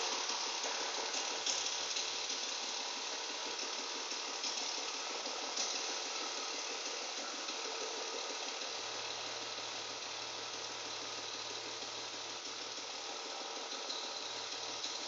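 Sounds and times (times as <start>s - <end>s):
rapid engine knocking: 0.0s - 15.0s.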